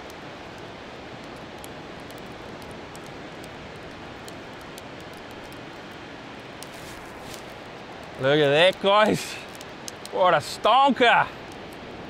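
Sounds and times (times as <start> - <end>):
ocean surf: 0.1 - 12.0.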